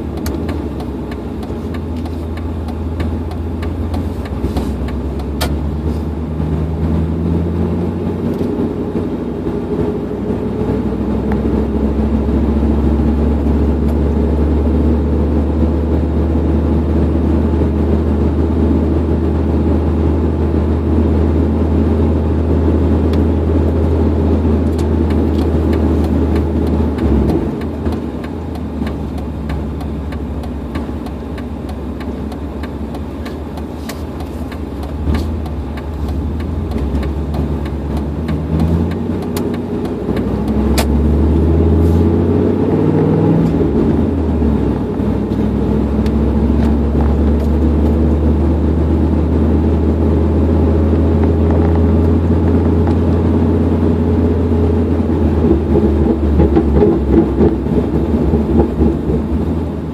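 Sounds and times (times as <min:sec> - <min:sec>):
truck exhaust drone from inside cab: 0:00.0 - 0:59.9.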